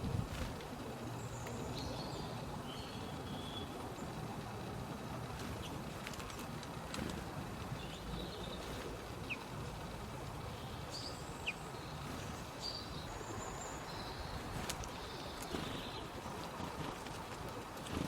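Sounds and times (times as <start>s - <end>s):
low background noise: 0.0s - 18.0s
songbirds calling: 0.0s - 18.0s.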